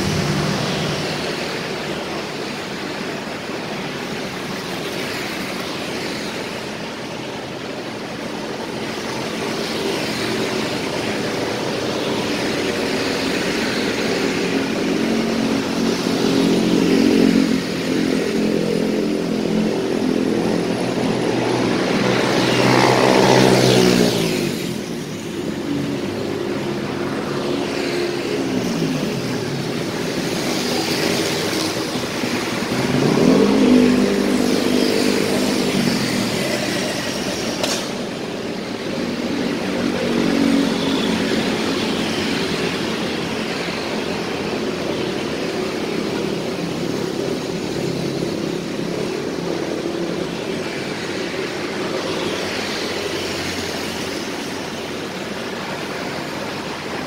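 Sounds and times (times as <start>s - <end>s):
loud vehicle passing by: 0.0s - 4.0s, 8.8s - 57.0s
motorcycles and cars passing: 0.0s - 57.0s.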